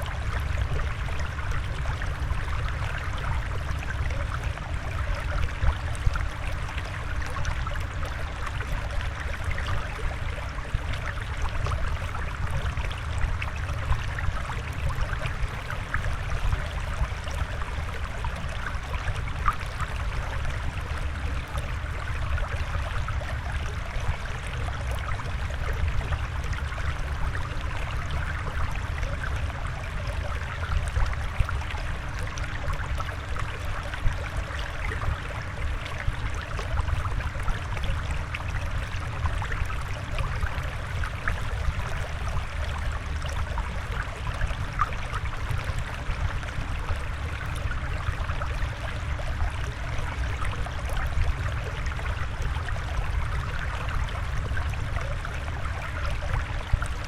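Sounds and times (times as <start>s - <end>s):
water trickling ticks and pops: 0.0s - 57.0s.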